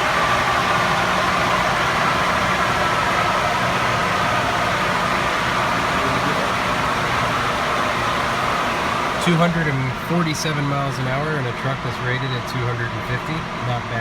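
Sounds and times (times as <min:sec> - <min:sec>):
truck running noise: 0:00.0 - 0:14.0.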